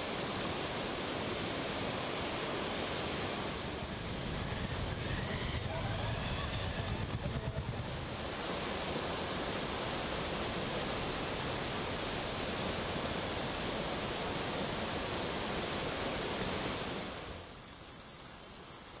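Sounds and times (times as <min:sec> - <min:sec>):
flooded river rushing: 0:00.0 - 0:19.0.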